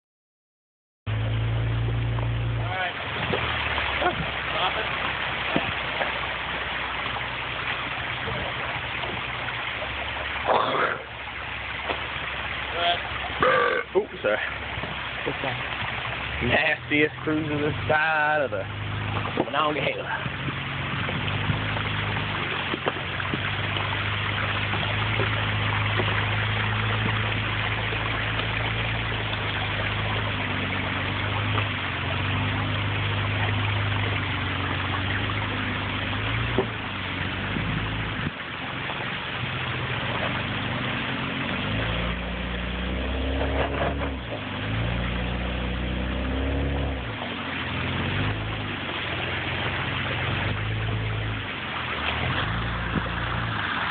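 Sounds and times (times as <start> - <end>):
truck engine running at low revs: 1.1 - 53.9.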